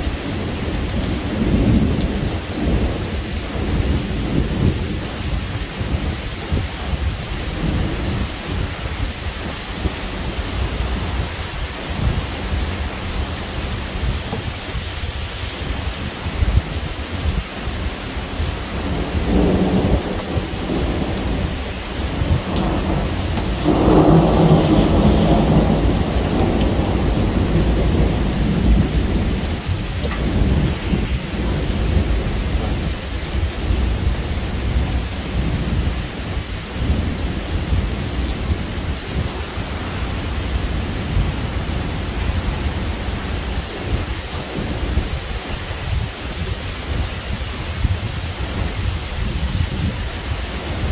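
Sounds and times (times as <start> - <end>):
steady rain: 0.0 - 50.9
thunder rumbling: 0.0 - 50.9.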